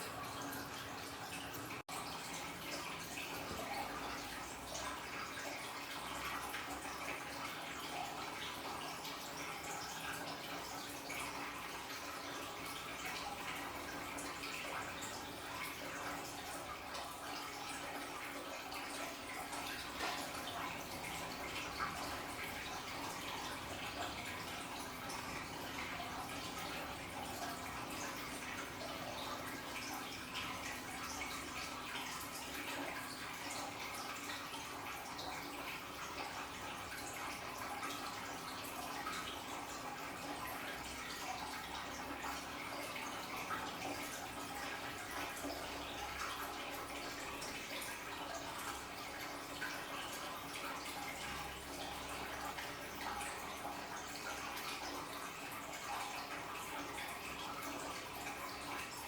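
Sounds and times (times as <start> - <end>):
aquarium waterfall trickling: 0.0 - 59.0
faint steady hum: 0.0 - 59.0.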